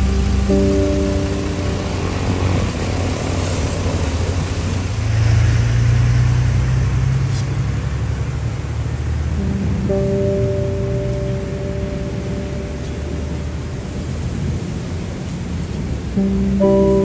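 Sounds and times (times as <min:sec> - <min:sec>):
passing engine drone: 0:00.0 - 0:17.0
steady rain: 0:00.0 - 0:17.0.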